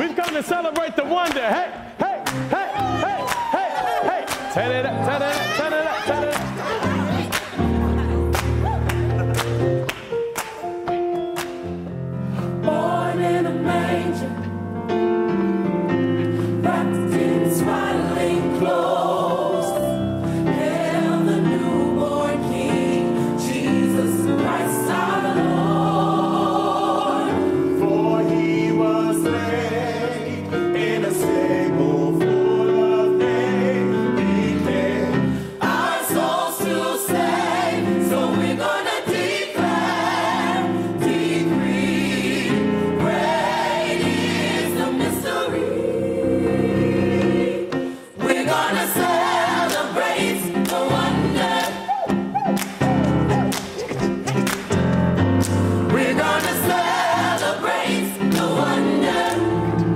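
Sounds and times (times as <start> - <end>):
gospel choir singing: 1.8 - 9.8, 12.2 - 59.9.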